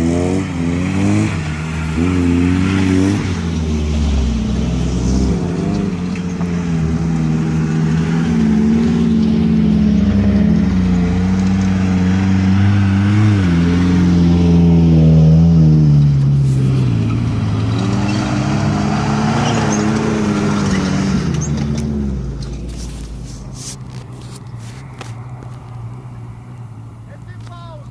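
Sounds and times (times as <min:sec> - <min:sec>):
engine revving: 0:00.0 - 0:27.9.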